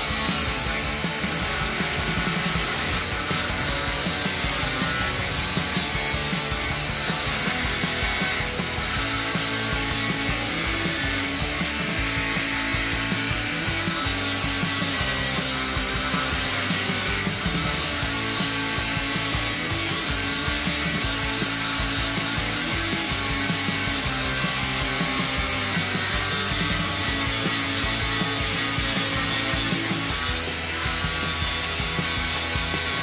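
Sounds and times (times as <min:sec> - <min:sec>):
saw cutting through wood: 0:00.0 - 0:33.0.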